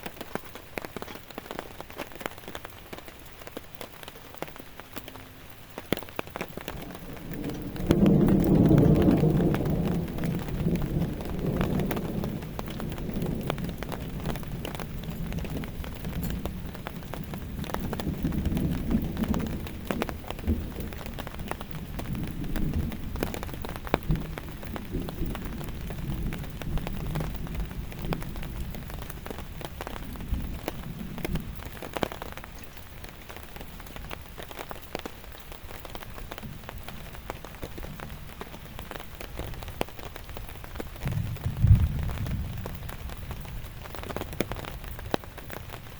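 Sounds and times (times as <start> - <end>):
heavy rain falling: 0.0 - 45.9
raindrops ticking on a surface: 0.0 - 45.9
thunder rumbling: 6.0 - 45.9.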